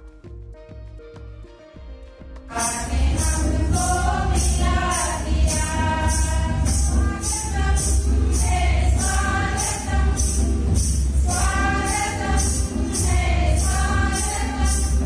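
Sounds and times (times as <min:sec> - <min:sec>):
group singing a hymn: 0:02.5 - 0:15.0
jingling tambourine beat: 0:02.5 - 0:15.0.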